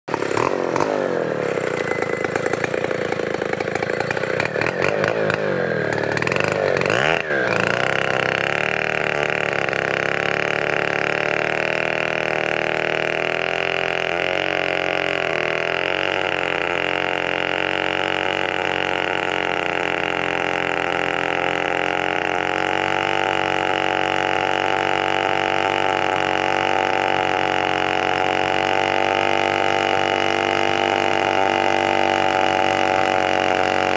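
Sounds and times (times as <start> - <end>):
chainsaw engine revving: 0.1 - 33.9.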